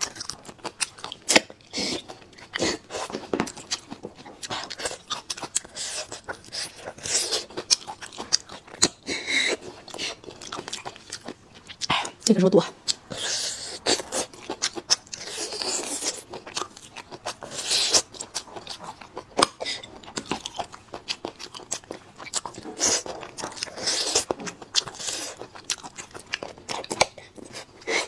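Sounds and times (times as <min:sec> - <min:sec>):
wet smacking and chewing: 0:00.0 - 0:28.0.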